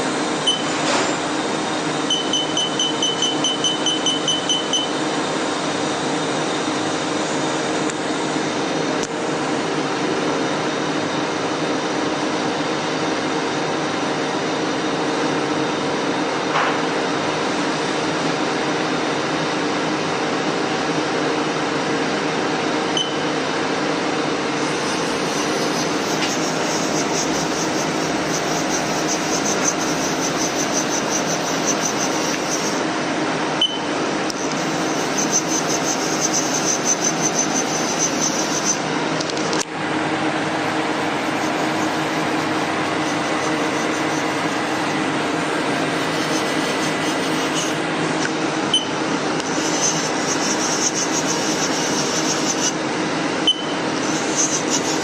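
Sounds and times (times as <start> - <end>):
lathe machine hum: 0.0 - 20.4, 21.0 - 55.0.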